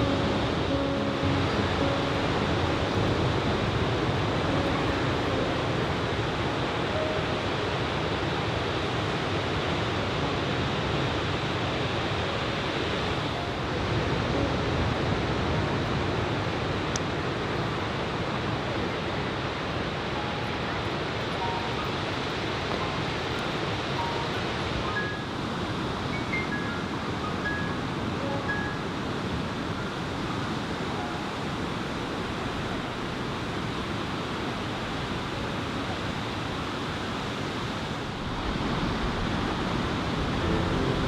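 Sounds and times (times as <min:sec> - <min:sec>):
strong wind: 0:00.0 - 0:41.0.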